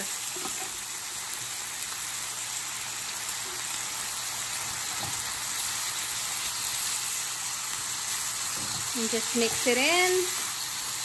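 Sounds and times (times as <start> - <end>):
onions sizzling in frying pan: 0.0 - 11.0.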